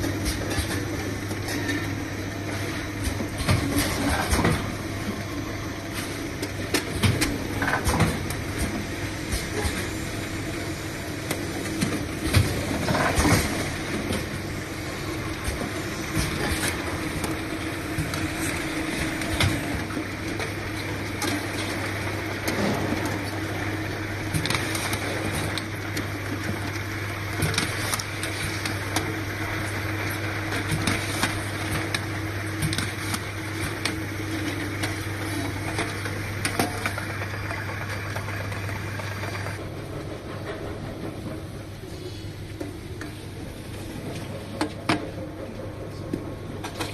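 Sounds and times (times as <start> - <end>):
machine hum: 0.0 - 46.9.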